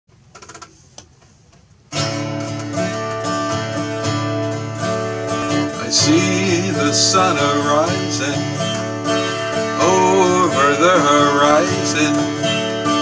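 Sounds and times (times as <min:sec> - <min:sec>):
acoustic guitar strummed chords: 0:01.9 - 0:13.0.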